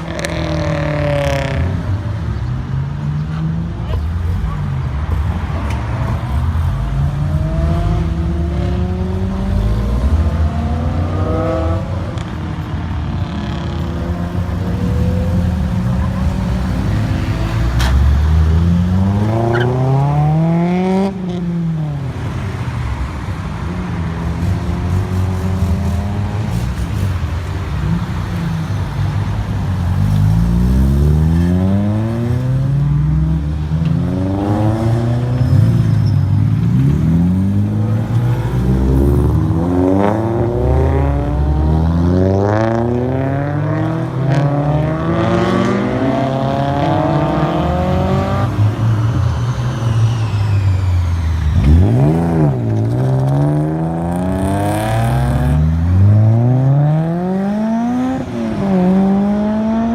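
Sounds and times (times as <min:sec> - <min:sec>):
car engines accelerating: 0:00.0 - 0:59.9.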